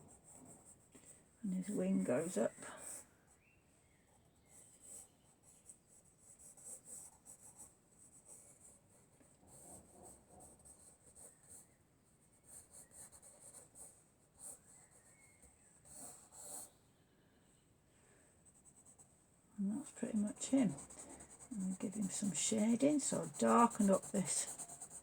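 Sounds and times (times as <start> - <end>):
pencil scratching on paper: 0.0 - 0.9, 1.6 - 3.5, 4.1 - 16.7, 18.4 - 25.0.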